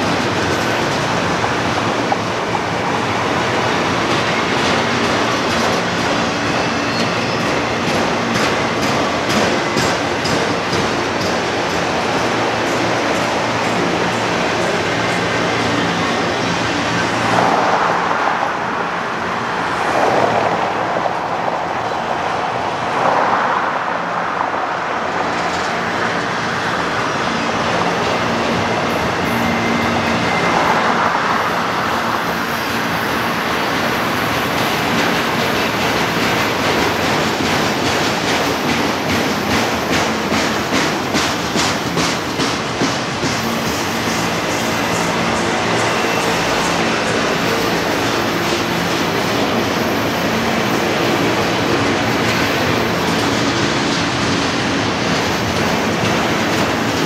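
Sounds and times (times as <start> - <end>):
train wheels clicking: 0.0 - 18.0, 25.1 - 57.0
freight train rolling on rails: 0.0 - 57.0.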